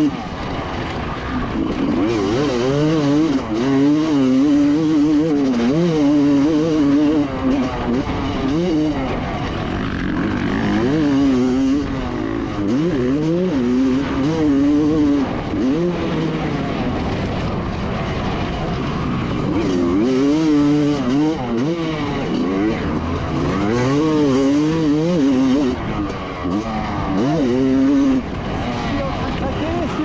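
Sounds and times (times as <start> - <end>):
motocross bike engine revving: 0.0 - 30.0.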